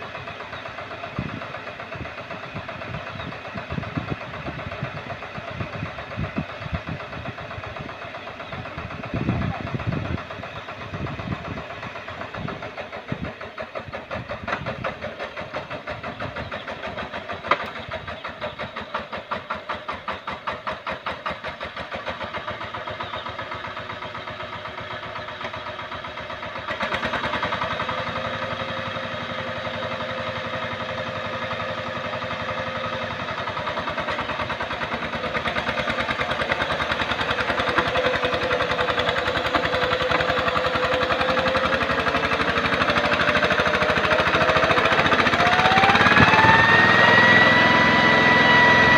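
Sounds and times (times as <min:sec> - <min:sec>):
diesel tiller engine chugging: 0:00.0 - 0:48.9.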